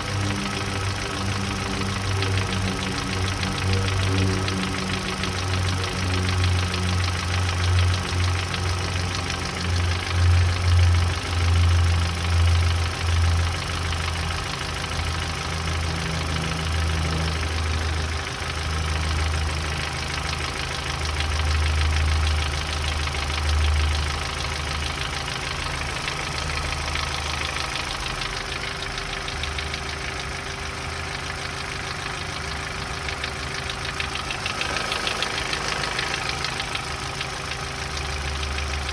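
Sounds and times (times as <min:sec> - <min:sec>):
petrol engine knocking tick: 0:00.0 - 0:38.9.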